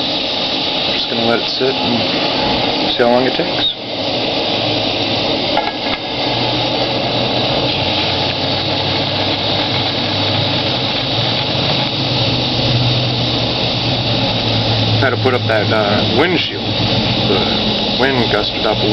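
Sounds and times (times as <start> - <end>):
camping stove roaring: 0.0 - 18.9.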